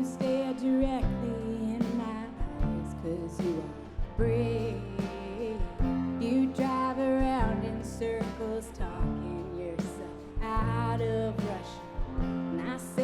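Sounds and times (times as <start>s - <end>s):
live indie rock band playing: 0.0s - 13.0s.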